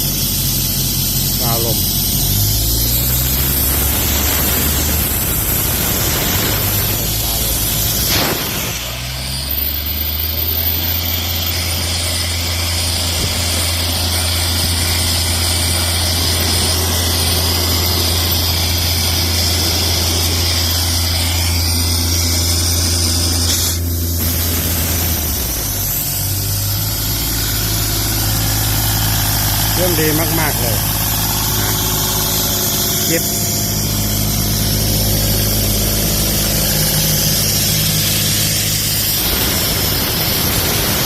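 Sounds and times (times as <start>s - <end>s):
diesel compressor engine running: 0.0s - 41.0s
high hiss: 0.0s - 41.0s.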